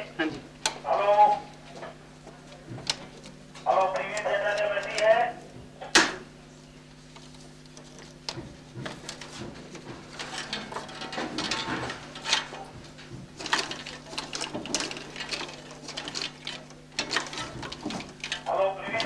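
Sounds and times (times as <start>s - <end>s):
steady electrical hum: 0.0s - 19.0s
film projector clattering: 2.7s - 6.2s, 7.0s - 19.0s.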